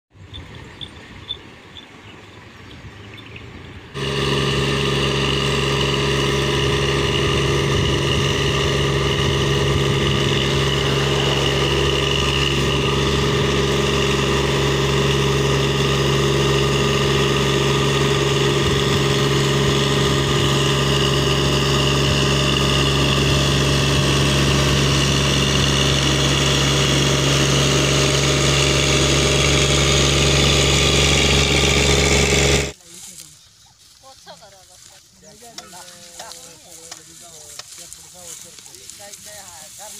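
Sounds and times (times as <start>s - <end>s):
engine running steadily: 0.1s - 39.9s.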